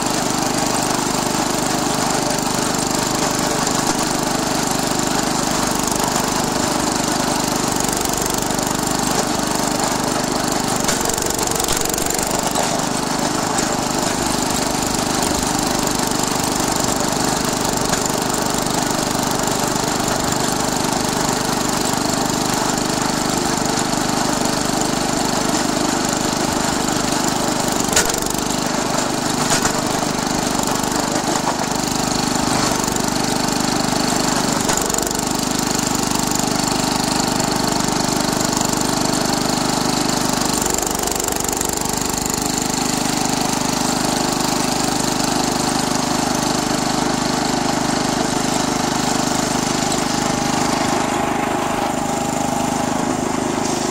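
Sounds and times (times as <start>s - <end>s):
garden tractor engine running: 0.0s - 53.9s.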